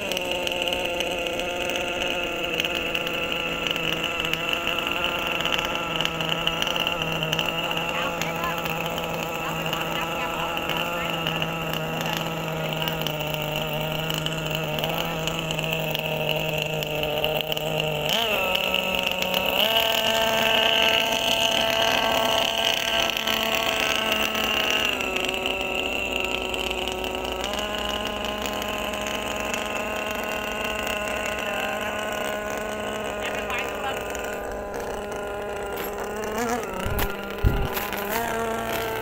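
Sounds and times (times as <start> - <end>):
two-stroke engine running: 0.0 - 39.0.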